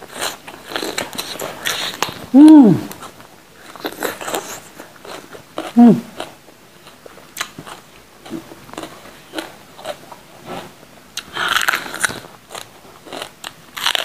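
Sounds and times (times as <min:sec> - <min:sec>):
person chewing crunchy pepper: 0:00.0 - 0:10.6, 0:11.2 - 0:14.0.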